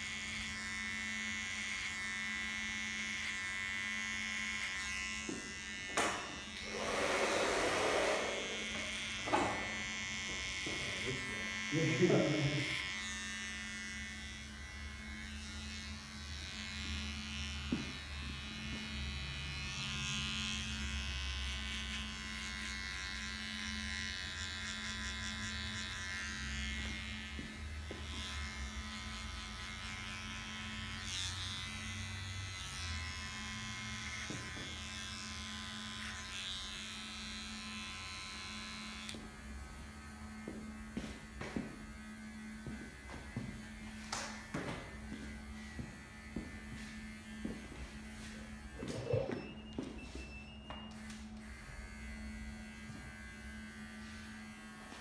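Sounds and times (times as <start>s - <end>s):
hair clipper buzzing: 0.0s - 55.0s.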